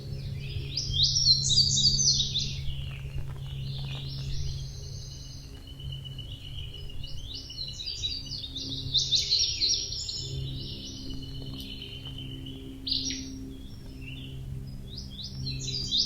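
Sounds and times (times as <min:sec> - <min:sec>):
low steady hum: 0:00.0 - 0:16.0
songbirds singing: 0:00.0 - 0:16.0.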